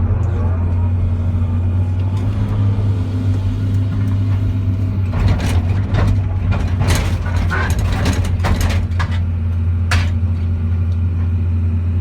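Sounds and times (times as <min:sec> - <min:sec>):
excavator diesel engine running: 0:00.0 - 0:12.0
metal crunching and clanking: 0:00.7 - 0:11.4.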